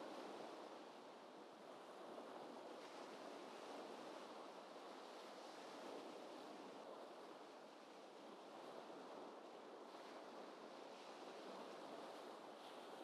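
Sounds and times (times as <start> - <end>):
gentle ocean waves: 0.0 - 13.0.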